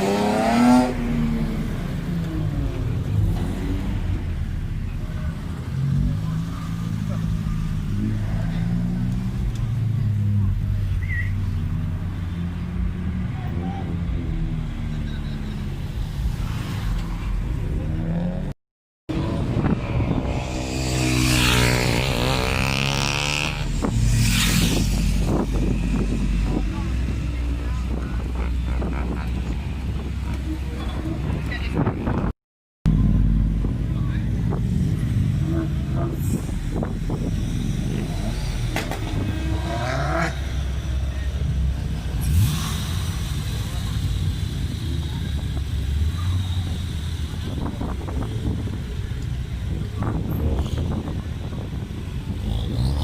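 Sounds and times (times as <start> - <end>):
car engine revving: 0.0 - 32.3, 32.9 - 49.0.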